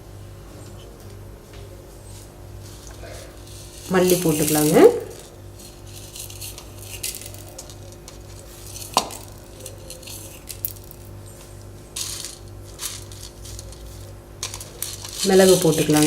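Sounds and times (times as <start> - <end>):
seeds roasting in oil: 2.1 - 16.0.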